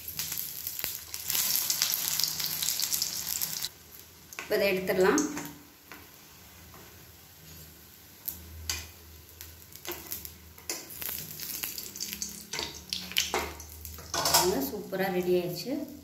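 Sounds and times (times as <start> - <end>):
batter sizzling in oil: 0.0 - 16.0.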